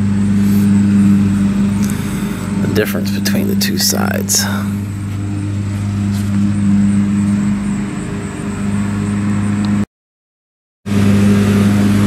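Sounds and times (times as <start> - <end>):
low mechanical hum: 0.0 - 9.9, 10.9 - 12.0.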